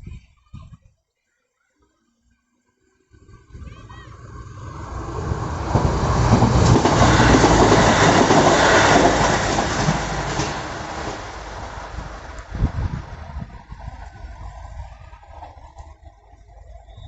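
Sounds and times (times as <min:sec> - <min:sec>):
train passing: 0:02.8 - 0:17.0.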